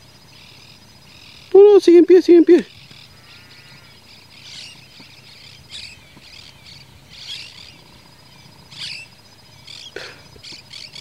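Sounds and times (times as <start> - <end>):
insect trill: 0.0 - 11.0
small birds chirping: 0.0 - 11.0.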